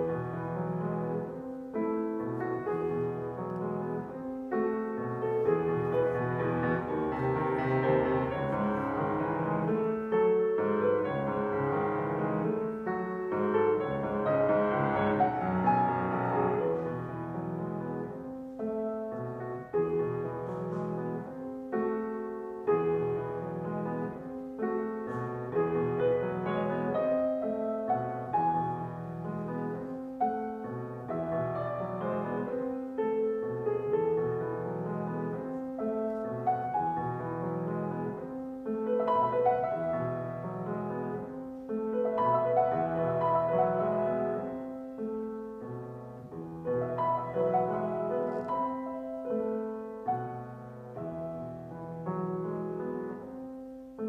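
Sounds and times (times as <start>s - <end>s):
grand piano classical piece: 0.0s - 54.0s.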